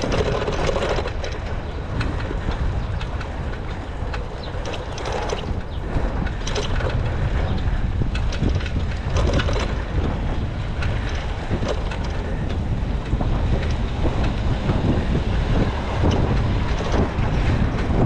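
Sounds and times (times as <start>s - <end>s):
light clicks and rattles: 0.0s - 18.0s
wind buffeting microphone: 0.0s - 18.0s.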